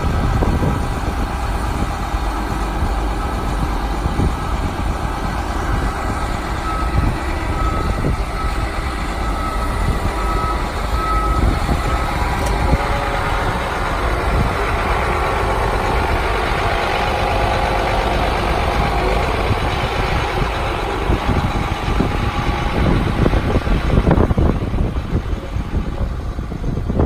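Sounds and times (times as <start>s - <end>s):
truck engine running: 0.0s - 27.0s
wind buffeting microphone: 0.0s - 27.0s.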